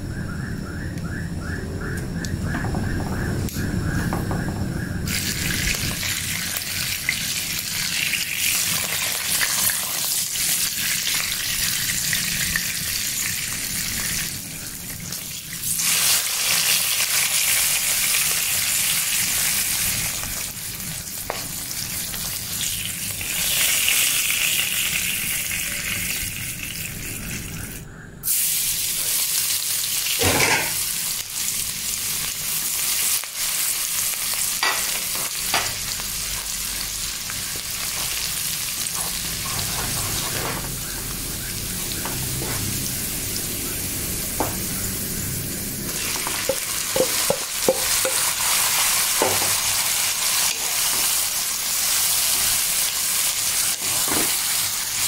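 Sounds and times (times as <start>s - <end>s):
fish sizzling in oil: 5.1s - 55.0s
onion sizzling in oil: 5.1s - 55.0s.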